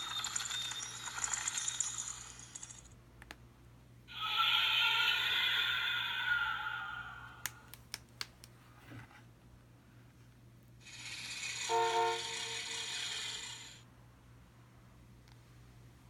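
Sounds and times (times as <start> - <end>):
hissy recorded sound from speaker: 0.0 - 13.9.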